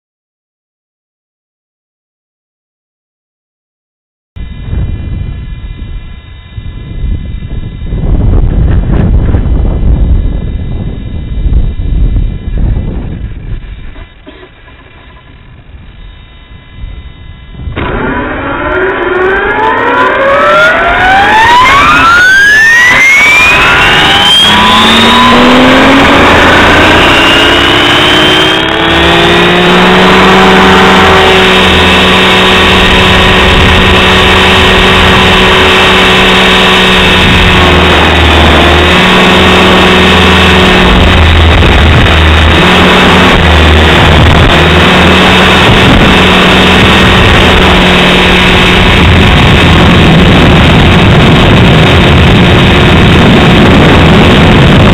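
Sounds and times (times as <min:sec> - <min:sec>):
rc helicopter rotor whine: 0:04.4 - 0:54.9
wind buffeting microphone: 0:04.4 - 0:54.9.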